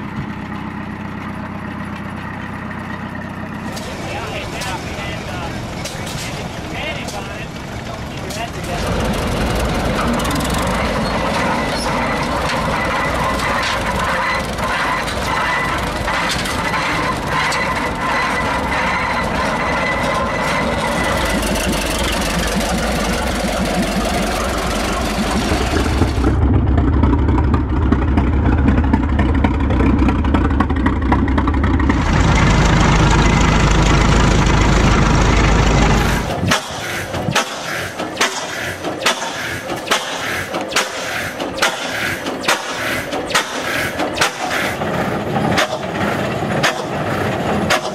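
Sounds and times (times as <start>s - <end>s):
engine low rumble: 0.0s - 47.9s
single-cylinder engine uneven strokes: 0.0s - 47.9s.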